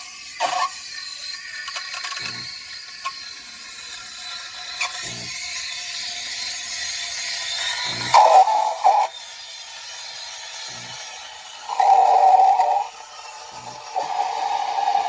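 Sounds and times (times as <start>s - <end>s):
espresso machine hissing and rattling: 0.0s - 15.0s.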